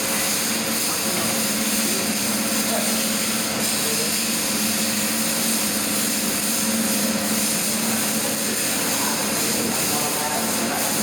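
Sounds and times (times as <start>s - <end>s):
welding hiss: 0.0s - 11.0s.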